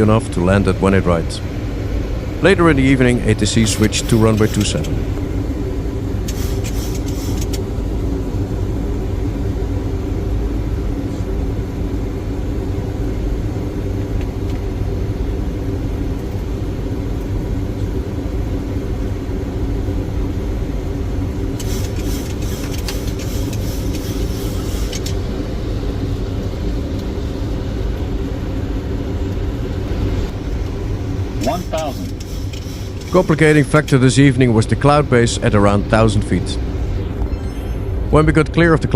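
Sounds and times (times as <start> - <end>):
cockpit airflow and engine rumble: 0.0 - 38.9
steady hum tones: 0.0 - 38.9.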